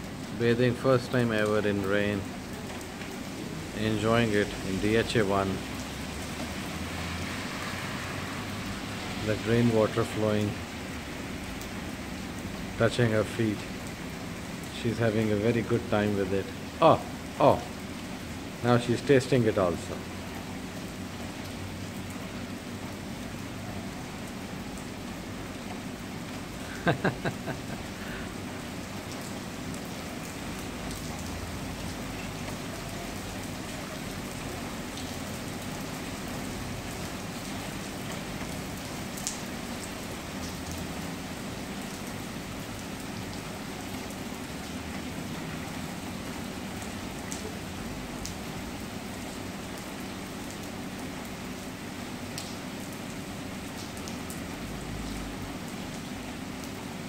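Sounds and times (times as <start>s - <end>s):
rain on standing water: 0.0s - 57.0s.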